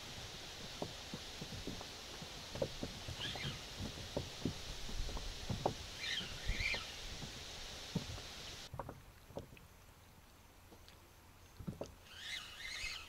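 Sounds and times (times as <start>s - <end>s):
wind hiss: 0.0s - 8.8s, 9.7s - 13.0s
water lapping against boat hull: 0.0s - 13.0s.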